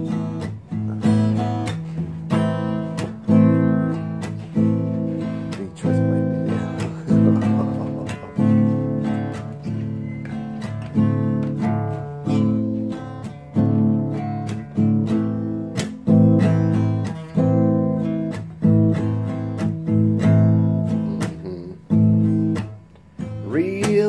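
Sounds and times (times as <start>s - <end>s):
guitar chords strummed: 0.0s - 24.0s.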